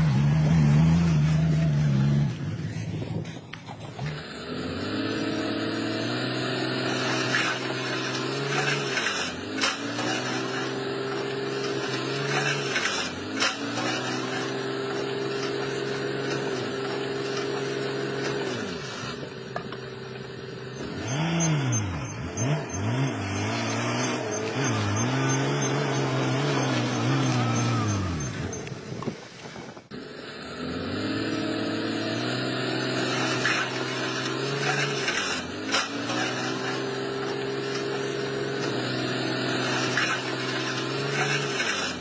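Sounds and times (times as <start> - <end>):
heavy machinery engine revving: 0.0 - 29.0, 29.9 - 42.0.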